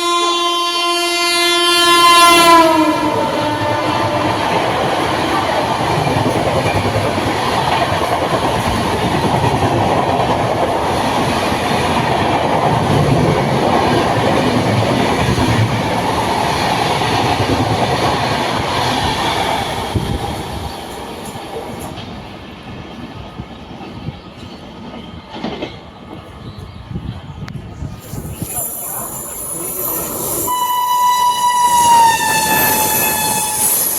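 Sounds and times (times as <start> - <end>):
train passing at speed: 0.0 - 33.9.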